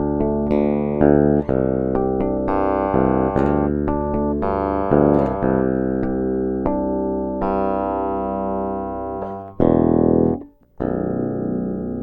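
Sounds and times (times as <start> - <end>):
bass guitar plucked notes: 0.0 - 12.0.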